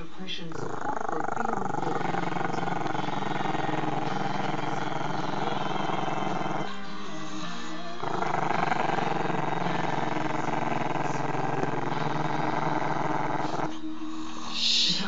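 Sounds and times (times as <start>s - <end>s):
puppy growling: 0.0s - 15.0s.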